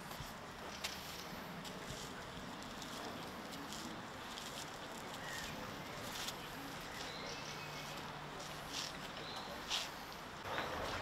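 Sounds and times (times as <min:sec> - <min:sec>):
footsteps on gravel: 0:00.0 - 0:11.0.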